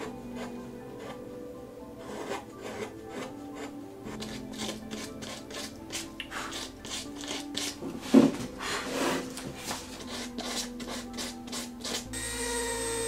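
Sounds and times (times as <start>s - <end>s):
carving gouge scraping wood: 0.0s - 1.3s, 2.0s - 12.2s.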